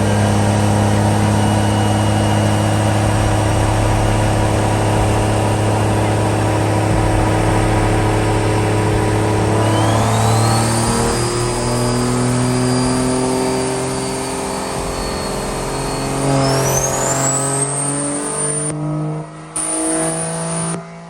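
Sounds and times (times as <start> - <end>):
high engine whine: 0.0 - 21.0
truck engine accelerating: 0.0 - 21.0.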